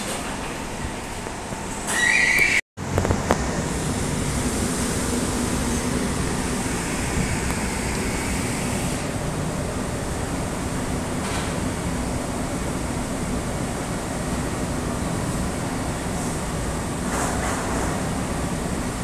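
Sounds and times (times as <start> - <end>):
escalator mechanical hum: 0.0 - 19.0.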